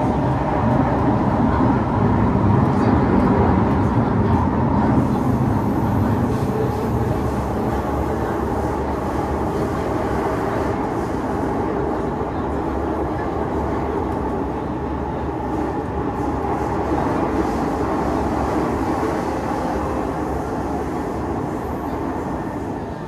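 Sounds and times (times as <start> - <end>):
train rumbling and humming: 0.0 - 23.0.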